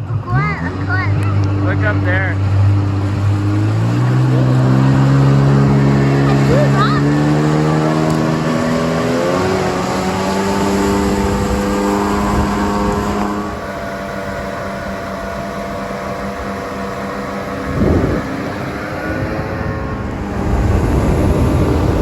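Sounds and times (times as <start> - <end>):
jet ski engine drone: 0.0 - 22.0
water wash and wind: 0.0 - 22.0.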